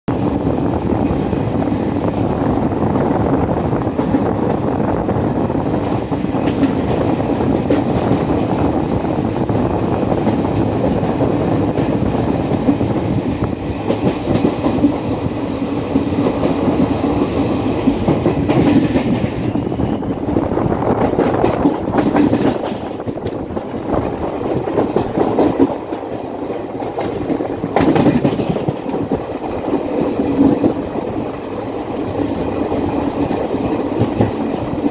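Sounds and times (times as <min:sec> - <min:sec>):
clickety-clack over rail joints: 0:00.1 - 0:34.9
train wheels rumbling on rail: 0:00.1 - 0:34.9.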